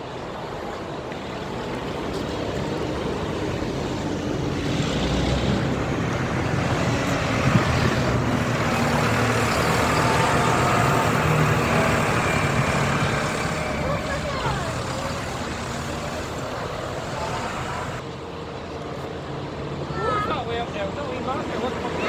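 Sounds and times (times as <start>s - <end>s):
heavy vehicle engines droning: 0.0s - 22.0s
road noise: 0.0s - 22.0s.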